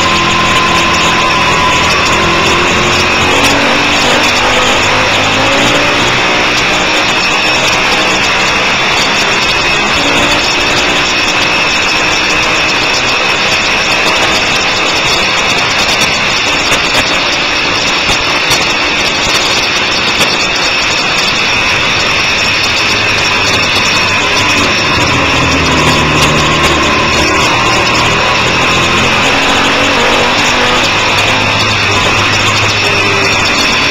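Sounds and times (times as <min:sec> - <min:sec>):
motorcycle engine at speed: 0:00.0 - 0:33.9
wind rushing over microphone: 0:00.0 - 0:33.9.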